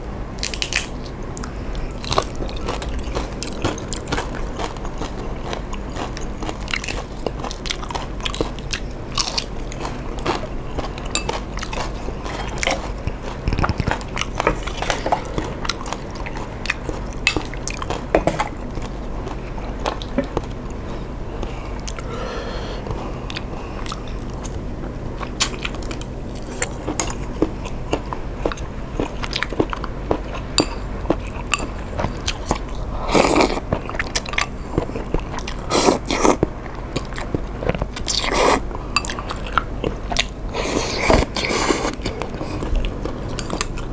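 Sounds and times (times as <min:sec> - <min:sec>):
person chewing noodles: 0:00.4 - 0:43.9.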